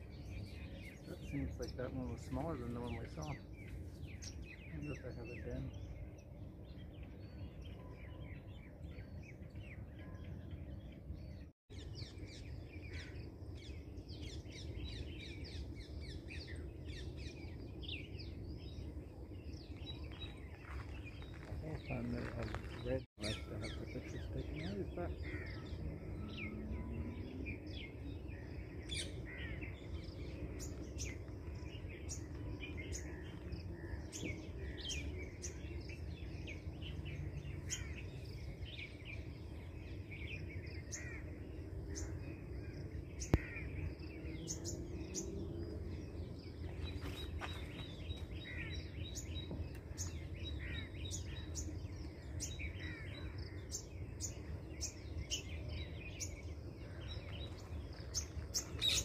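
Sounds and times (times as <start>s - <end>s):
birds chirping and calling: 0.0s - 59.0s
steady low rumble: 0.0s - 59.0s.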